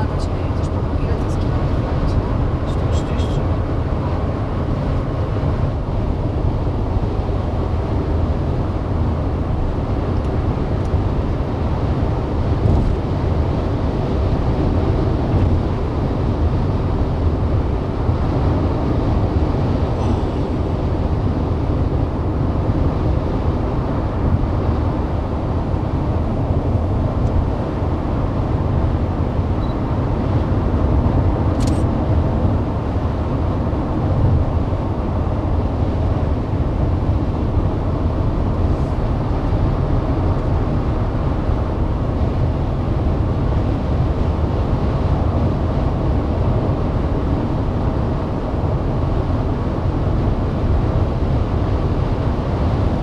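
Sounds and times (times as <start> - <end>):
car cabin road and engine noise: 0.0 - 53.0.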